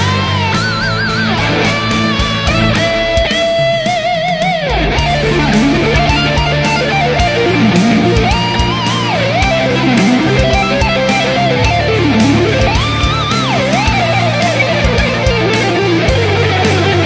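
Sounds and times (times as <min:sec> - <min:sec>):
electric guitar lead: 0:00.0 - 0:17.0
rock music: 0:00.0 - 0:17.0.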